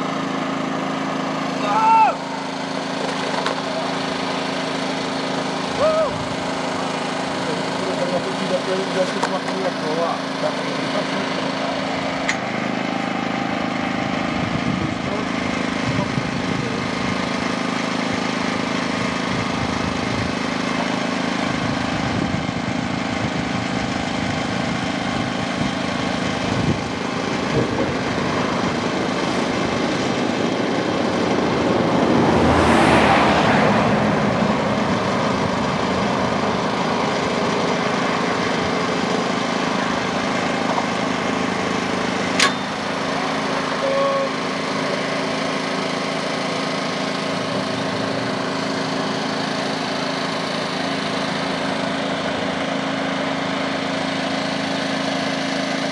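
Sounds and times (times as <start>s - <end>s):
small engine humming: 0.0s - 55.9s.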